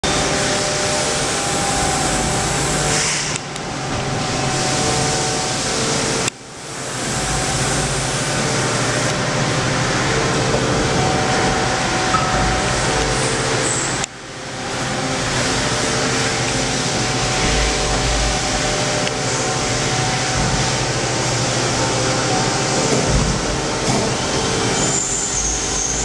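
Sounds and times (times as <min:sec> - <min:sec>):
machine hum and whir: 0:00.0 - 0:26.0.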